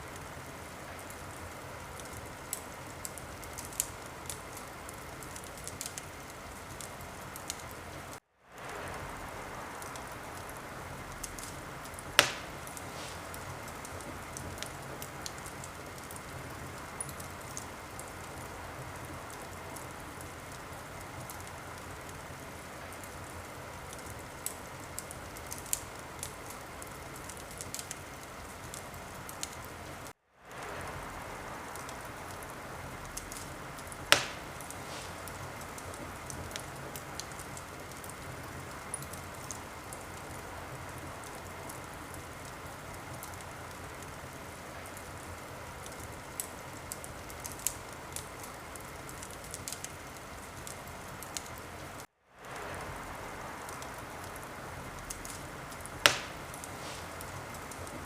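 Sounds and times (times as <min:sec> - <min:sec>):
fire crackling and popping: 0:00.0 - 0:58.0
sharp fire snaps: 0:00.0 - 0:58.0.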